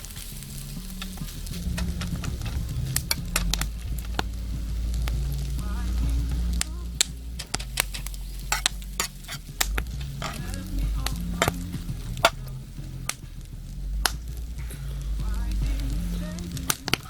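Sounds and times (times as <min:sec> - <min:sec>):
campfire pops and clicks: 0:00.0 - 0:17.0
soft background music: 0:00.0 - 0:17.0.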